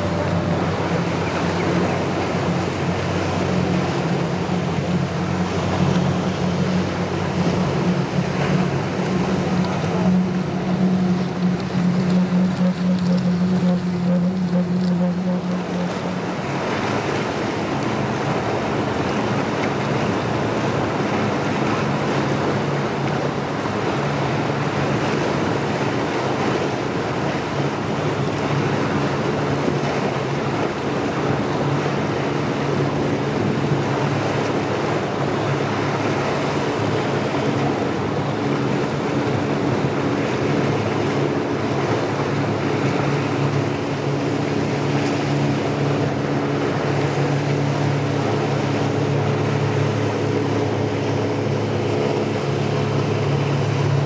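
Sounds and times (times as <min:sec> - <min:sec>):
boat engine hum: 0:00.0 - 0:54.0
rushing spray of hull and wake: 0:00.0 - 0:54.0.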